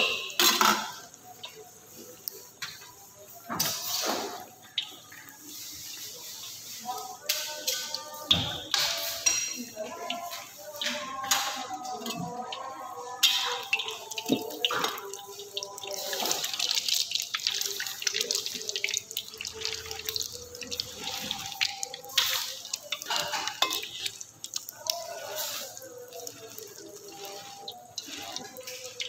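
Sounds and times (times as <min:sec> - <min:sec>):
oil sizzling and crackling: 0:00.0 - 0:29.0.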